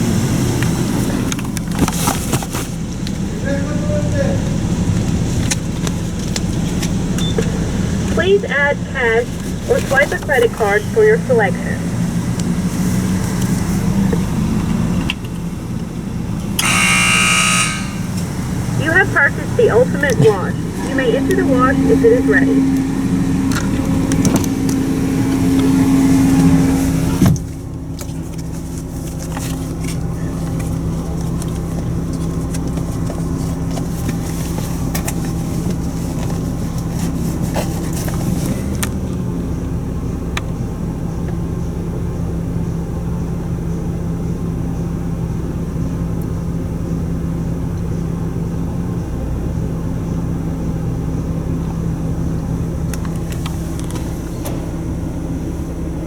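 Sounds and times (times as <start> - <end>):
car idling inside cabin: 0.0 - 56.0
noisy outside sound: 0.0 - 56.0.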